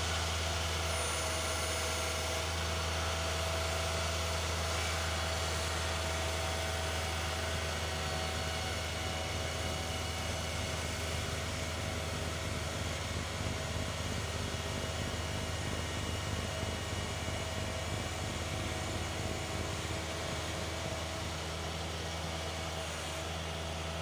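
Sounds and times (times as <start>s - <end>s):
snowblower whine: 0.0s - 24.0s
tractor diesel engine drone: 0.0s - 24.0s.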